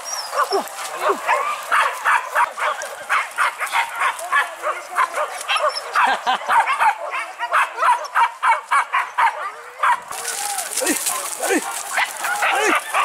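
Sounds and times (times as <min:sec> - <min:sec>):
dogs yelping and barking: 0:00.0 - 0:13.0.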